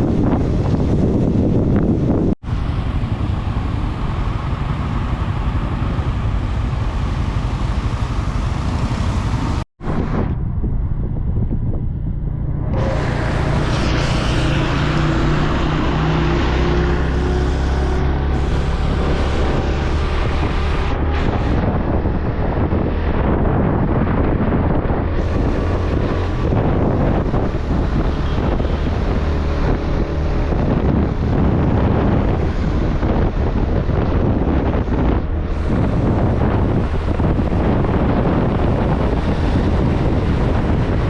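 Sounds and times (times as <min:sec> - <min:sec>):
motorcycle engine drone: 0:00.0 - 0:41.0
wind buffeting microphone: 0:00.0 - 0:41.0.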